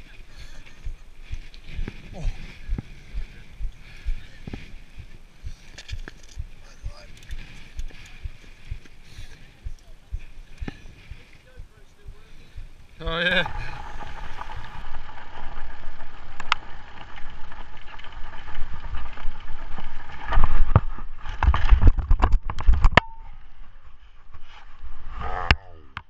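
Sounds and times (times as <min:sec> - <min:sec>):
bike rattling on dirt trail: 0:00.0 - 0:22.9
rustling: 0:00.0 - 0:22.9.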